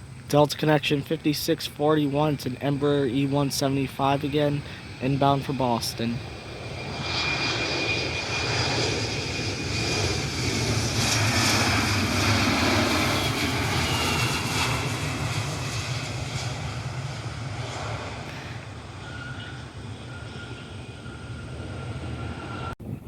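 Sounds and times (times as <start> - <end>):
jet airliner roaring past: 0.0 - 23.0.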